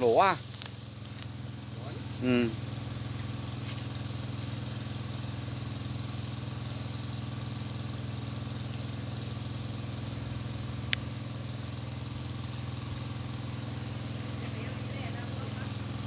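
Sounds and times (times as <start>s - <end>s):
small engine water pump running: 0.0s - 16.0s.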